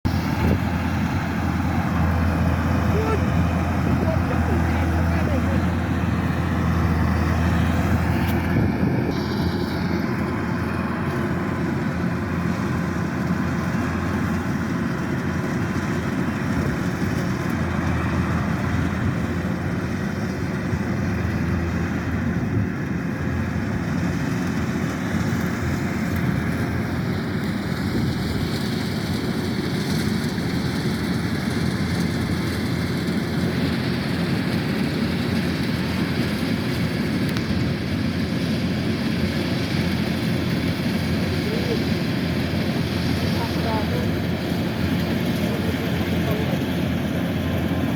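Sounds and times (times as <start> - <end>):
combine harvester droning: 0.0 - 47.9.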